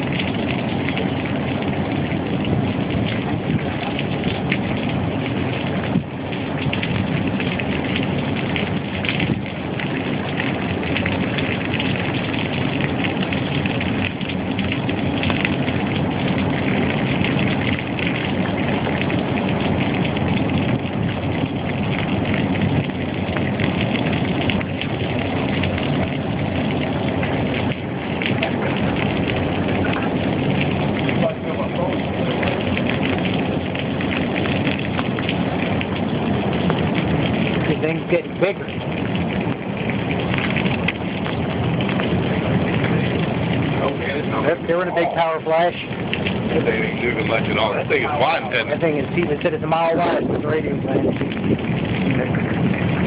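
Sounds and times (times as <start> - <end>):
heavy rain pattering: 0.0 - 53.0
low steady rumble: 0.0 - 53.0.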